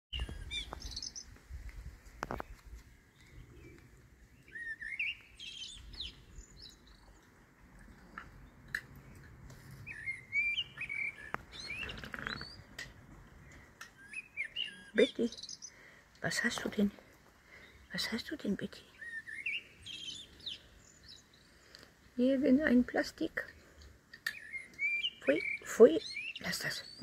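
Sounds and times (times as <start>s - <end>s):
songbirds chirping and warbling: 0.1s - 27.0s.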